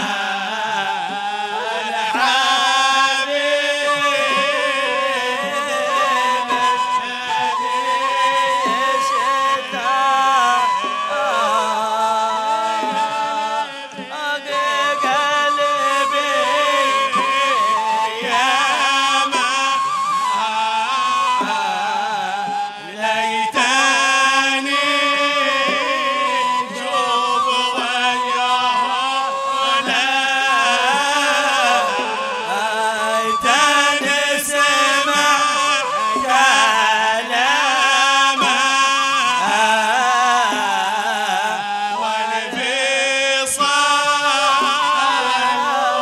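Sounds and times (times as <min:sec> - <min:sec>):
man singing: 0:00.0 - 0:46.0
wooden flute holding notes: 0:00.0 - 0:46.0.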